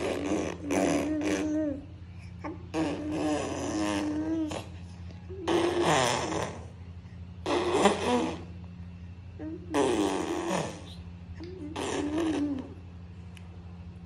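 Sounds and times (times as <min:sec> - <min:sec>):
toddler blowing raspberries: 0:00.0 - 0:06.8, 0:07.4 - 0:08.6, 0:09.4 - 0:12.8.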